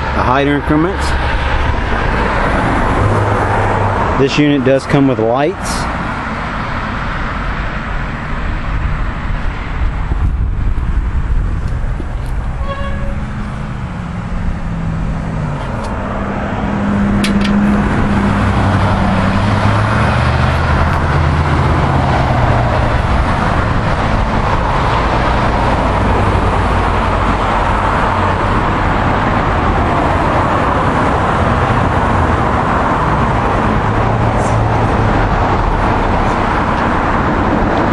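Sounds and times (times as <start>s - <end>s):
road traffic noise: 0.0s - 37.9s.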